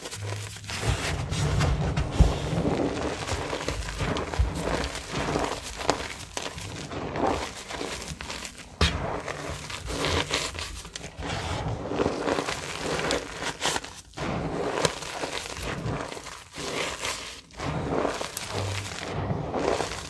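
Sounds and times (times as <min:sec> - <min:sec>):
gloved hands squeezing chalk powder: 0:00.0 - 0:20.0.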